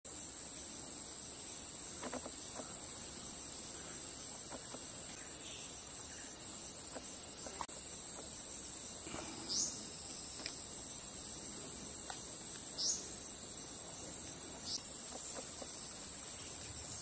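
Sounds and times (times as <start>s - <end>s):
high-pitched insect chorus: 0.1s - 17.0s.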